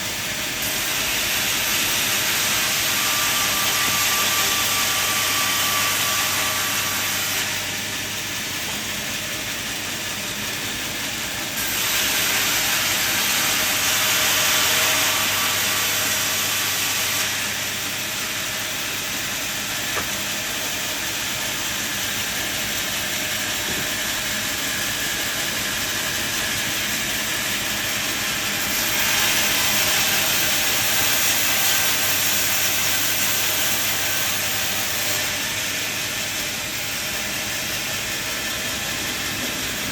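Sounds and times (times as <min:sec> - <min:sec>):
sawmill saw and motor running: 0:00.0 - 0:39.9.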